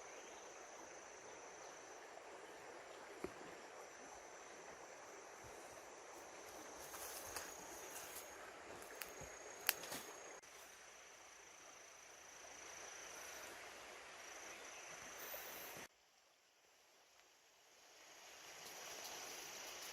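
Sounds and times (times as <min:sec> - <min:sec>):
insects humming: 0:00.0 - 0:19.9.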